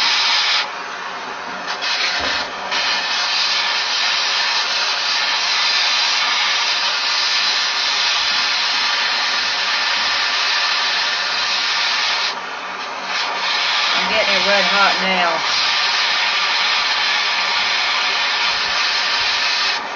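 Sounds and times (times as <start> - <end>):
gas torch flame burning: 0.0 - 19.9.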